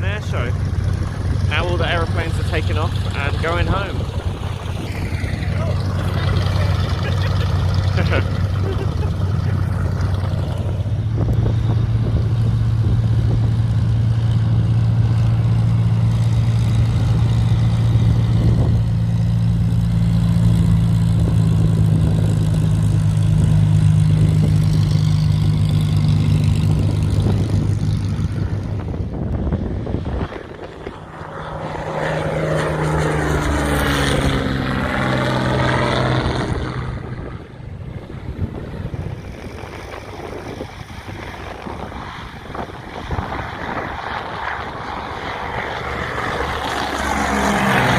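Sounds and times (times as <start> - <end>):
propeller aircraft taking off: 0.0 - 47.9
propeller plane passing: 0.0 - 47.9.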